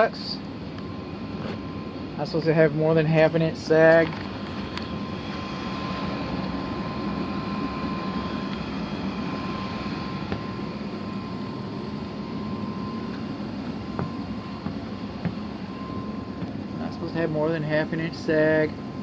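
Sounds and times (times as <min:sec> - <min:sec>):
air handler blower humming: 0:00.0 - 0:19.0.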